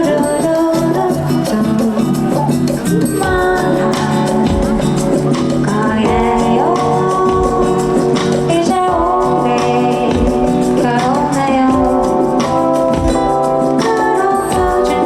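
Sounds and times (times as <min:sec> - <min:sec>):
backing band playing: 0:00.0 - 0:15.0.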